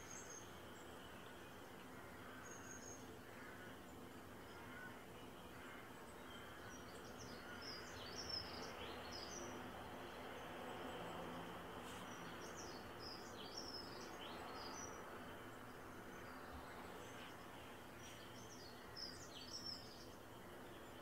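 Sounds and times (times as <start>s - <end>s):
outdoor background hiss: 0.0s - 21.0s
songbird chirping: 0.0s - 21.0s.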